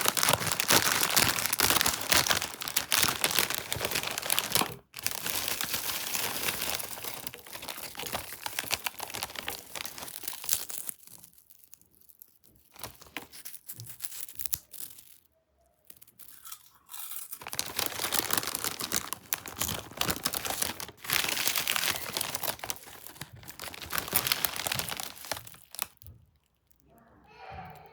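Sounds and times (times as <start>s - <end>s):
plastic bag crinkling and tearing: 0.0s - 15.3s, 15.9s - 26.2s.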